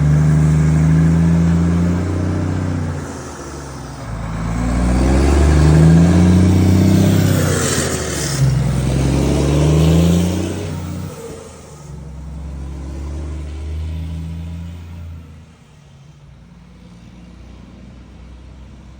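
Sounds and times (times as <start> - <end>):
truck diesel engine rumbling: 0.0 - 18.9.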